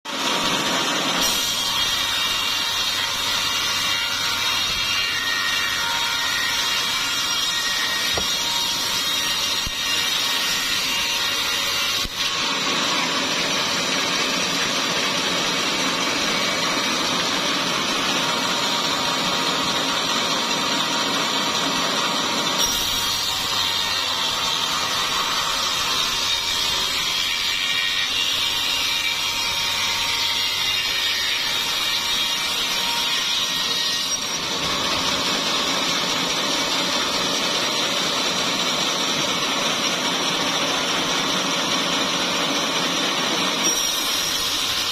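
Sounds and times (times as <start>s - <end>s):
sawmill saw cutting log: 0.1s - 44.9s.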